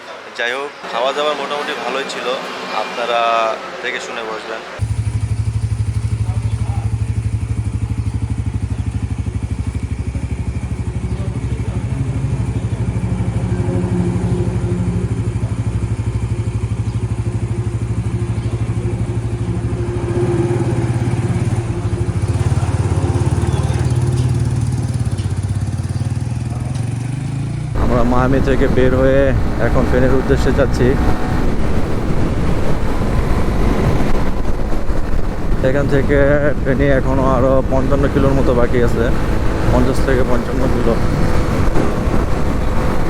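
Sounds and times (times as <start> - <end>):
motorcycle engine running: 4.8 - 43.0.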